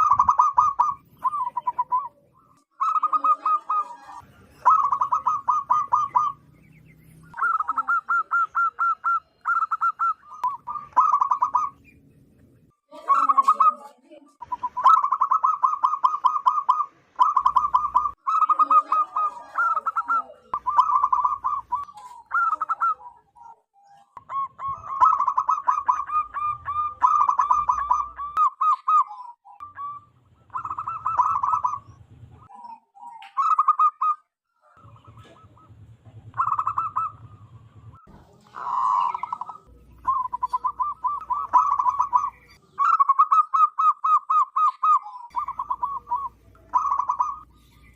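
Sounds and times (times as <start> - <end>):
dove cooing: 0.0 - 12.0, 12.9 - 47.9.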